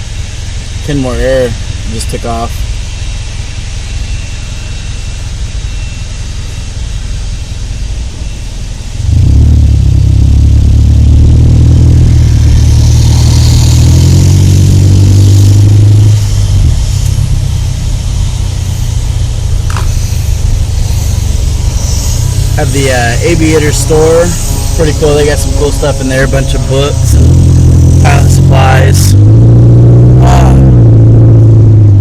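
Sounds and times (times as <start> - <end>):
car engine accelerating: 0.0 - 32.0
road rumble: 0.0 - 32.0.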